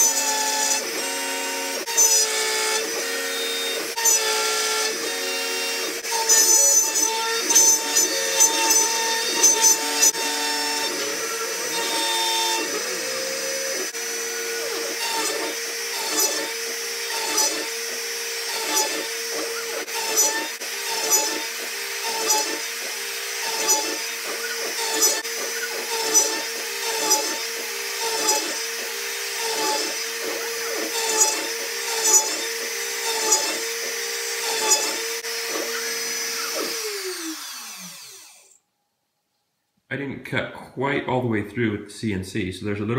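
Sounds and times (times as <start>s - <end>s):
router whining cutting plywood: 0.0s - 38.6s.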